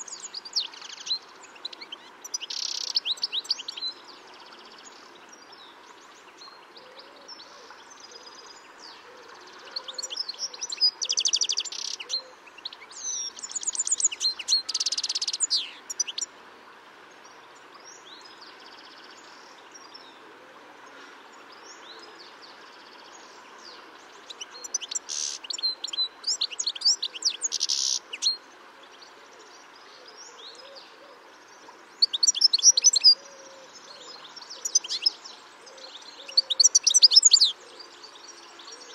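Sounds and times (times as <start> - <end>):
faint hiss: 0.0 - 38.9.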